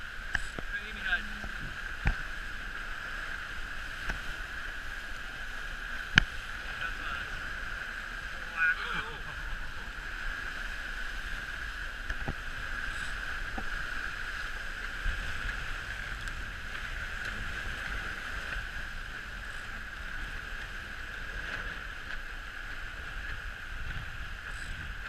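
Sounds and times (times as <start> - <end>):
water rushing past hulls: 0.0 - 25.0
wind buffeting microphone: 0.0 - 25.0.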